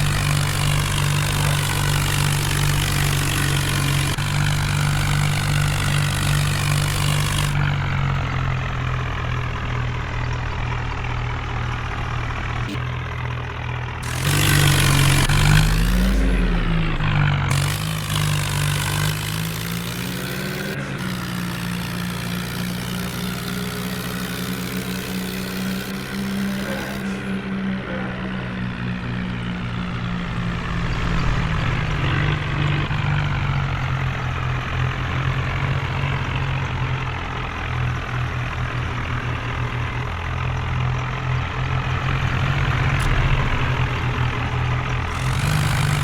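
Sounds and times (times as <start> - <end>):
diesel engines running: 0.0 - 46.0.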